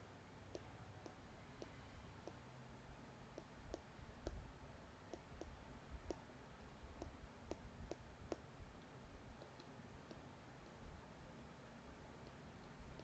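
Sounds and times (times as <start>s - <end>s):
faint room hiss: 0.0s - 13.0s.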